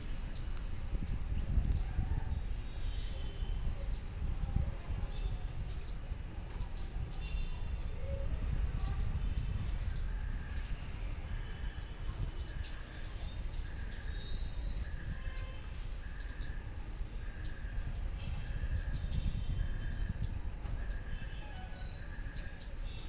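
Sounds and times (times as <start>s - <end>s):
sparrows chirping: 0.0s - 23.0s.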